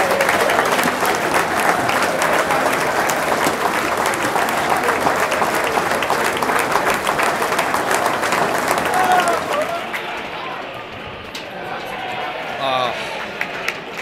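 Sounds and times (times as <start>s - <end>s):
crowd applauding: 0.0s - 14.0s
voices in crowd: 0.0s - 14.0s.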